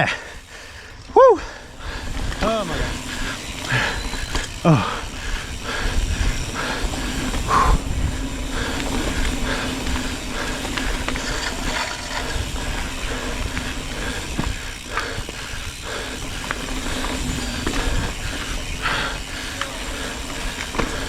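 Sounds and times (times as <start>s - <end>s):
bike freewheel ratcheting: 0.0s - 21.0s
bike rattling: 0.0s - 21.0s
tyres rumbling on dirt: 2.0s - 21.0s.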